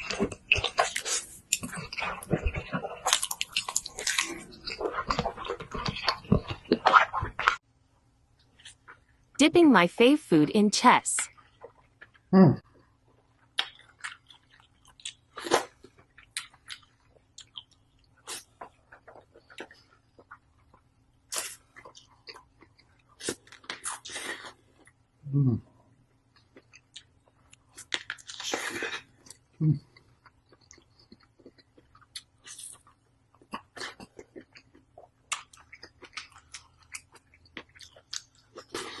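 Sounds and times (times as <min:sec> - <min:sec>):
chewing and biting food: 0:00.0 - 0:07.6, 0:11.3 - 0:25.0, 0:26.3 - 0:39.0.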